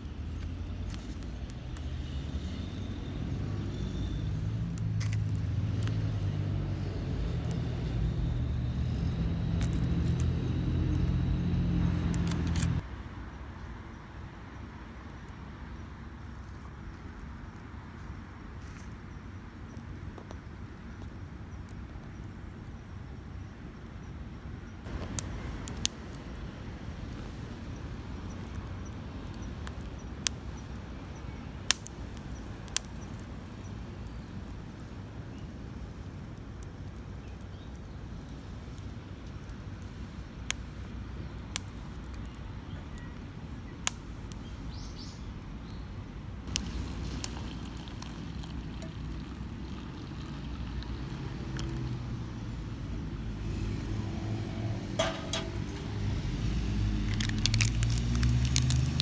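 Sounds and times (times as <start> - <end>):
campfire crackling: 0.0 - 23.9, 24.8 - 59.0.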